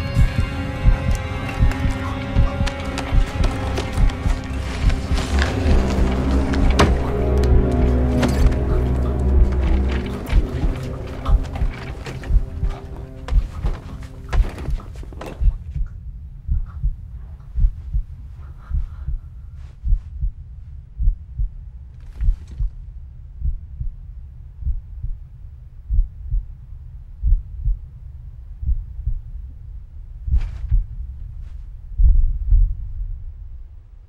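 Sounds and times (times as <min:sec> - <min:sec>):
low heartbeat thumping: 0:00.0 - 0:33.7.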